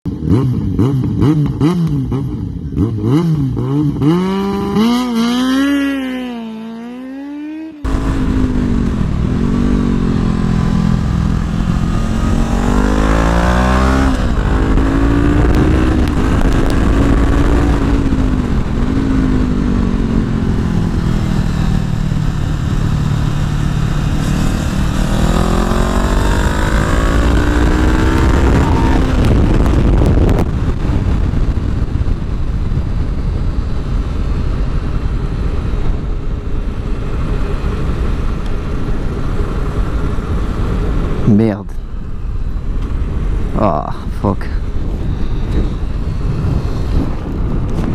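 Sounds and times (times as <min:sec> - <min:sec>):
motorcycle engine revving: 0:00.1 - 0:41.3
wind noise on microphone: 0:07.8 - 0:47.9.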